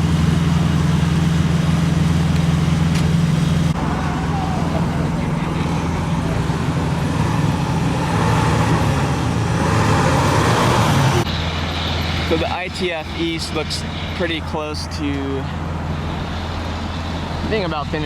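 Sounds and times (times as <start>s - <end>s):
vehicle road noise with low hum: 0.0s - 18.0s.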